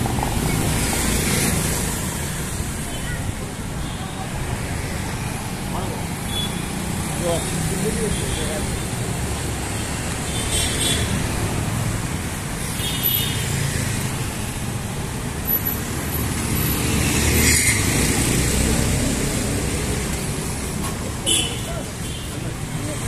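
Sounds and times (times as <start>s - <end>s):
motor vehicles passing: 4.4s - 23.0s.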